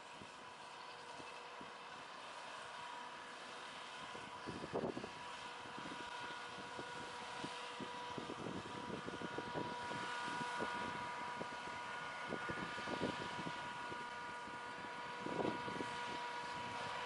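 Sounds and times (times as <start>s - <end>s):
harvester mechanical whine: 0.0s - 17.0s.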